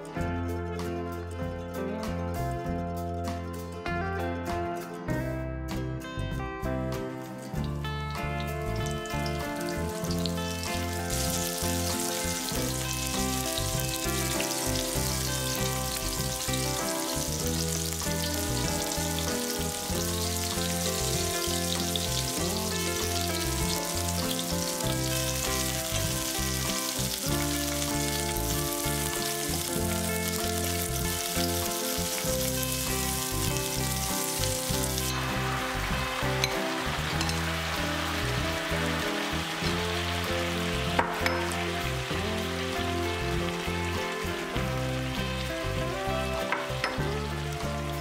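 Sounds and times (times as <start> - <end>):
background music: 0.0 - 48.0
fish sizzling in a frying pan: 8.6 - 48.0.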